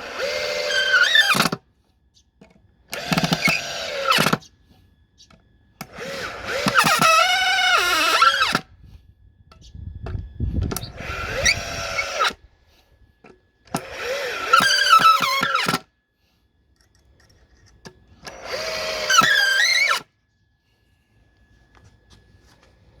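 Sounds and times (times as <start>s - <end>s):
cordless drill motor whine: 0.0s - 1.9s, 2.6s - 23.0s.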